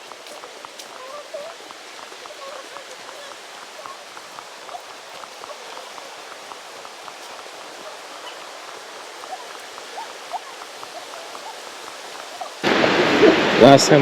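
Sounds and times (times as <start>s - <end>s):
birds chirping: 0.0s - 12.6s
waterfall rushing: 0.0s - 14.0s.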